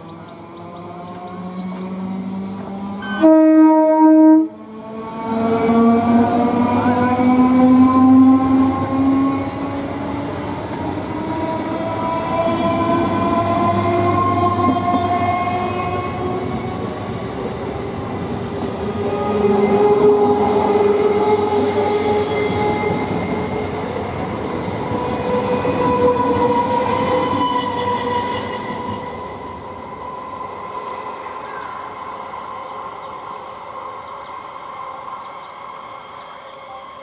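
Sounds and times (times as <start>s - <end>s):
train wheels rumbling on rails: 0.0s - 3.2s, 4.6s - 37.0s.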